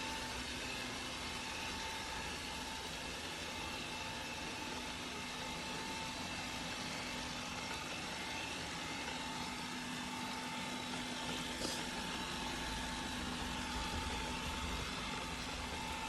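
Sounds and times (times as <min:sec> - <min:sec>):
constant whine: 0:00.0 - 0:16.0
robot vacuum whirring: 0:00.0 - 0:16.0.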